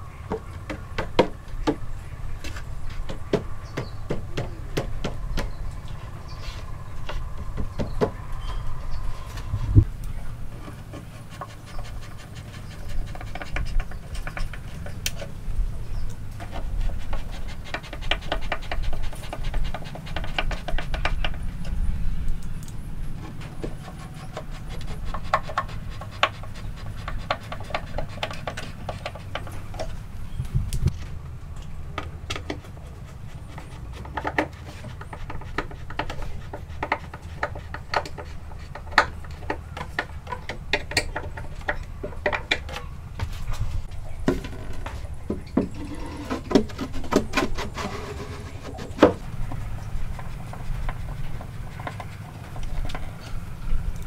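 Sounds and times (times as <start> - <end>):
low steady rumble: 0.0 - 17.6, 18.7 - 27.2, 27.9 - 54.0.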